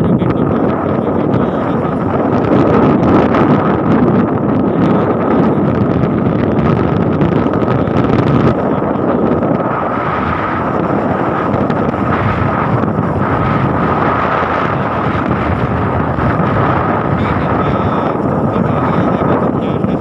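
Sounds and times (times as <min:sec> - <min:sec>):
road noise: 0:00.0 - 0:20.0
steady high hum: 0:00.0 - 0:20.0
wind buffeting microphone: 0:00.0 - 0:20.0.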